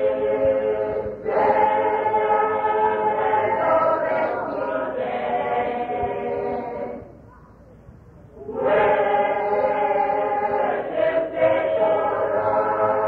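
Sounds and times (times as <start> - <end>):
choir singing held notes: 0.0 - 7.2, 8.4 - 13.0.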